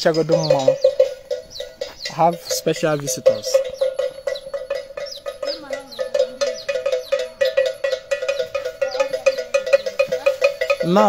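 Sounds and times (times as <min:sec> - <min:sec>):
metal bell clanging: 0:00.0 - 0:11.0.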